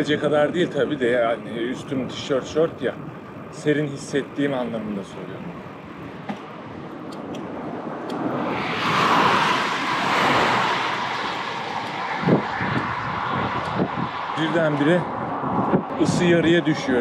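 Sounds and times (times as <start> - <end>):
vehicle passing: 1.0 - 17.0.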